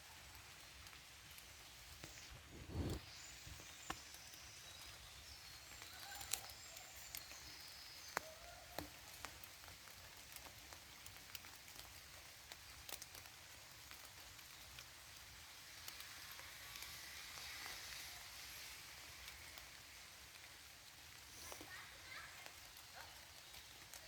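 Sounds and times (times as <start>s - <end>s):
light rain hiss: 0.0s - 24.0s.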